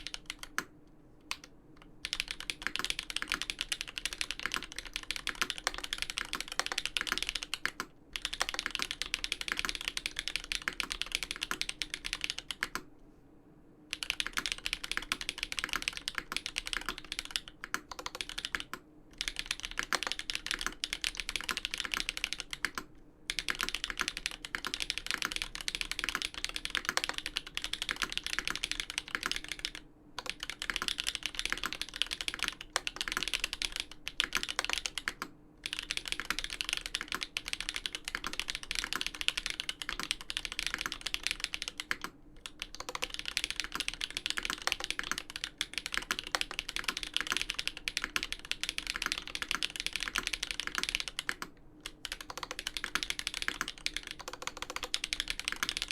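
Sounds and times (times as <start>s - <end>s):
mechanical keyboard typing: 0.0s - 0.7s, 1.3s - 12.9s, 13.9s - 55.9s.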